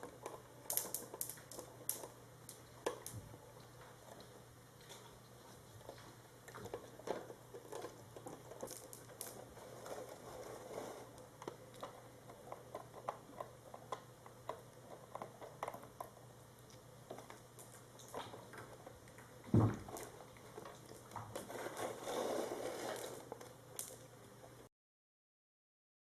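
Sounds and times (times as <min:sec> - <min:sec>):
faint steady hum: 0:00.0 - 0:24.7.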